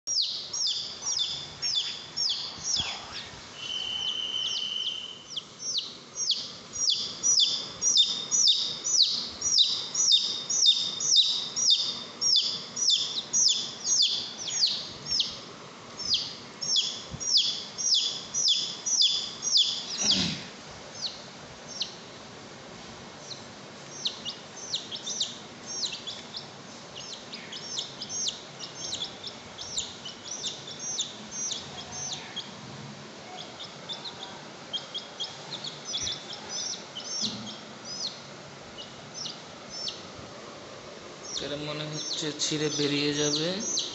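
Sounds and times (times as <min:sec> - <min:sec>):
baby chicks peeping: 0:00.0 - 0:22.3, 0:23.2 - 0:32.6, 0:33.2 - 0:40.2, 0:41.2 - 0:43.9.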